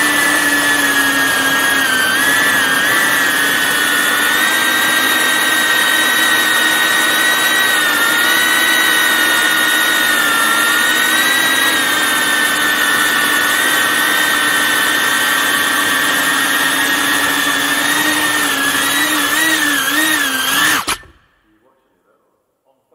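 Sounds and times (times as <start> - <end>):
drone motors whining: 0.0 - 21.3.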